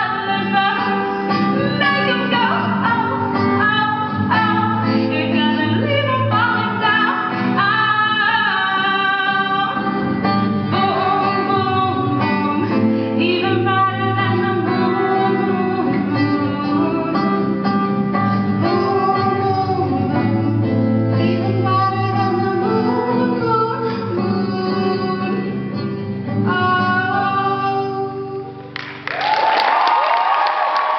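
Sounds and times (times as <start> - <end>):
acoustic guitar strumming: 0.0 - 28.8
woman singing: 0.0 - 28.8.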